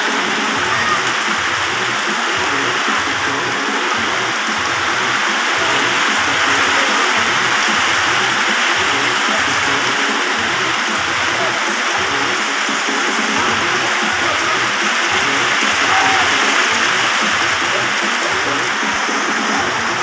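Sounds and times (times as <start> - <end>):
heavy rain on water and tiles: 0.0 - 20.0.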